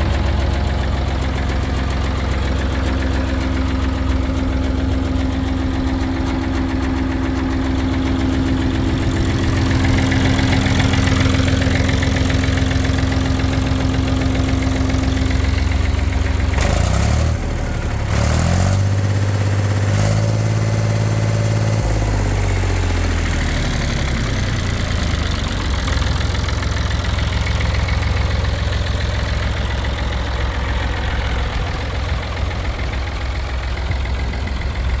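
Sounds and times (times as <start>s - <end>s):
tractor diesel engine idling and revving: 0.0s - 35.0s.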